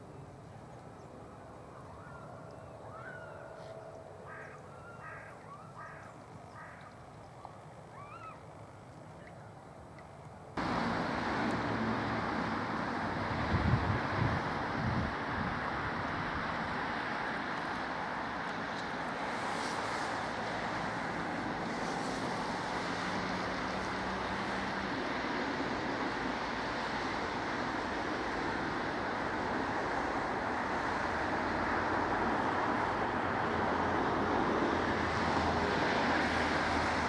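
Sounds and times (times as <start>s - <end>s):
distant traffic or surf: 0.0s - 37.0s
wind: 0.0s - 37.0s.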